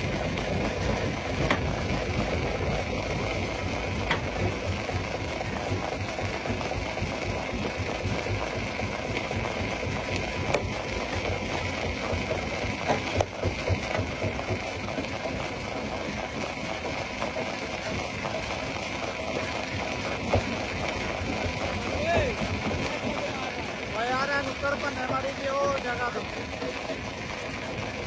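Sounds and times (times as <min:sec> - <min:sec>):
stone crusher machinery running: 0:00.0 - 0:28.0.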